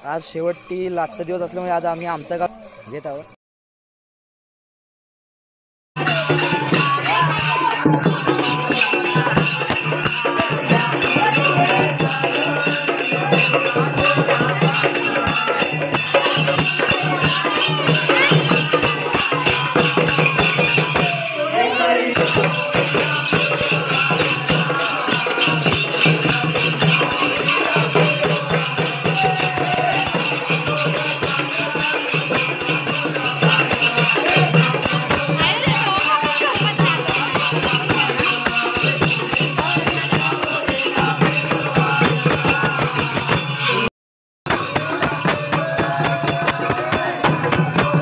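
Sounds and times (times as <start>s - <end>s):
jingling percussion: 0.0s - 3.4s, 6.0s - 48.0s
hand-beaten barrel drums: 6.0s - 43.9s, 44.5s - 48.0s.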